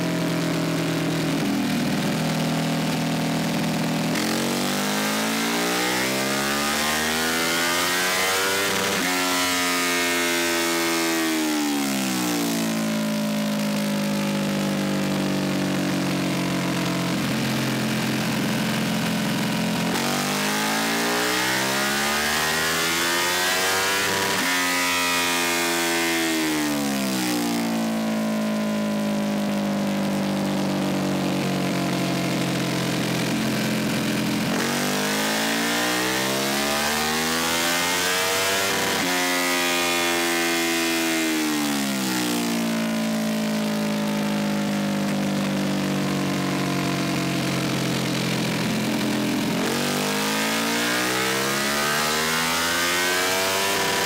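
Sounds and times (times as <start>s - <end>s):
motorcycle engine revving on dyno: 0.0s - 54.0s.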